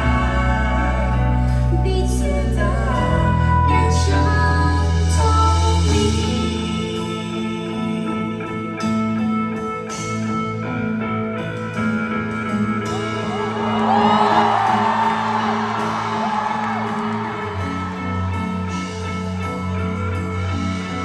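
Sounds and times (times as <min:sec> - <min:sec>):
slow pop ballad with guitar: 0:00.0 - 0:21.0.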